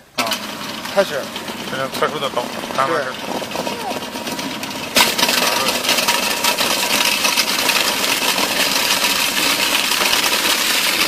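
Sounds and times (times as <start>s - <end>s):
electric food chopper chopping meat: 0.2s - 11.0s.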